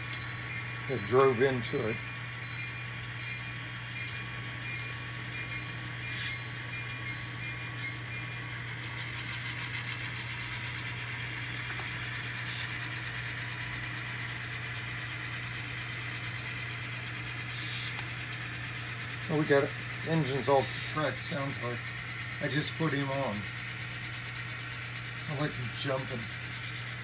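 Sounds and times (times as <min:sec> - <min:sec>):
model train electric hum: 0:00.0 - 0:27.0.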